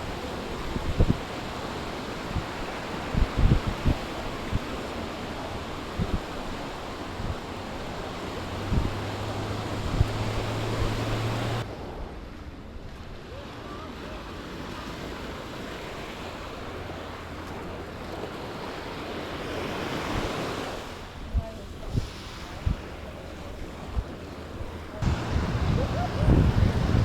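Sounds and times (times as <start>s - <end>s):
wind buffeting microphone: 0.0s - 13.3s, 15.3s - 27.0s
sea surf washing onto beach: 0.0s - 27.0s.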